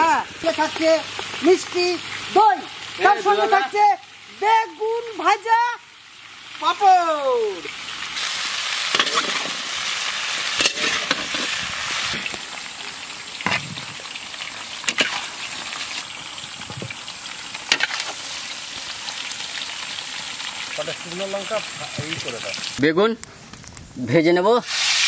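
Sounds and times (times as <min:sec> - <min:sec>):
food deep-frying in oil: 0:00.0 - 0:25.0.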